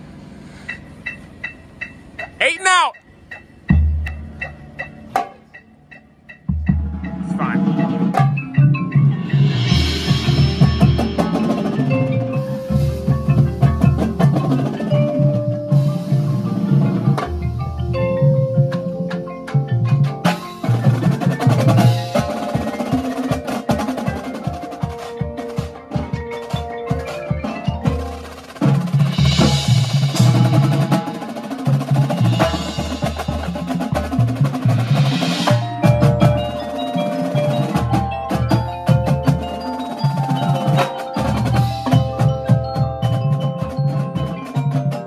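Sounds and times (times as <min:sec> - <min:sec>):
marimbas and vibraphones: 0:00.2 - 0:45.0
drum strokes: 0:00.5 - 0:45.0.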